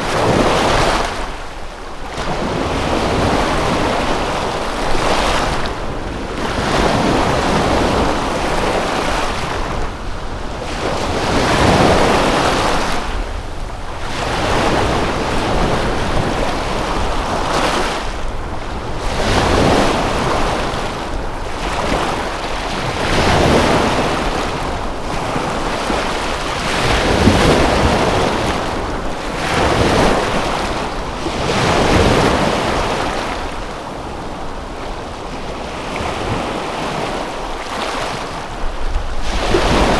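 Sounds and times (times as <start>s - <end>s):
water waves washing in: 0.0s - 39.9s.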